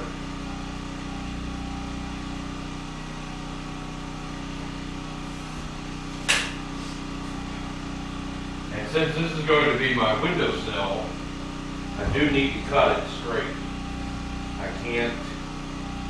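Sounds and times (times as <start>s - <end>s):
portable generator running: 0.0s - 16.0s.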